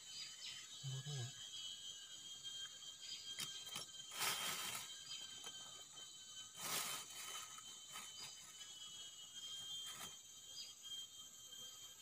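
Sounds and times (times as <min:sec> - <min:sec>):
forest insects droning: 0:00.0 - 0:12.0.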